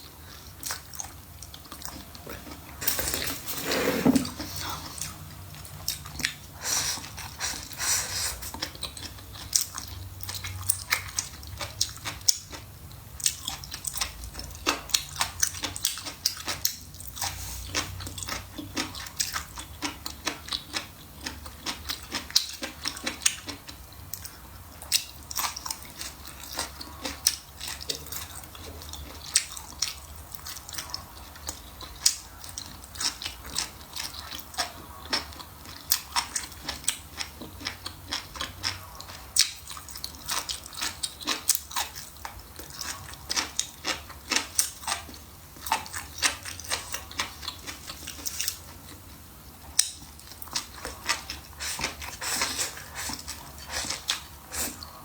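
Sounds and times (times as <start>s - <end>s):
person chewing and biting: 4.3s - 49.1s, 49.7s - 55.0s.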